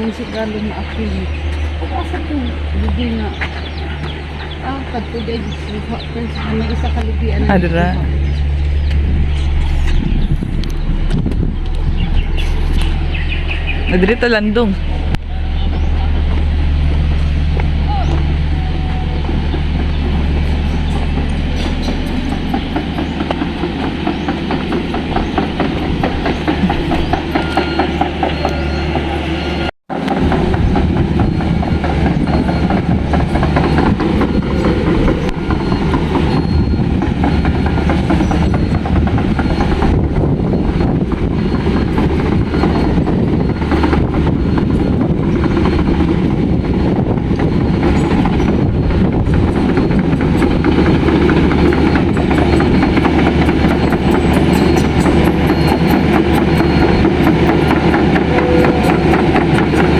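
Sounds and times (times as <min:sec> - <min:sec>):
diesel engine low drone: 0:00.0 - 0:59.9.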